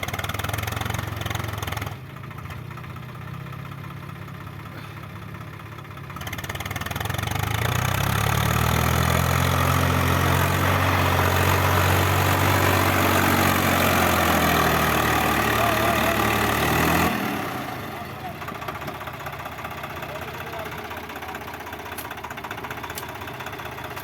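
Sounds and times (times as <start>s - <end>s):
tractor diesel engine: 0.0s - 24.0s.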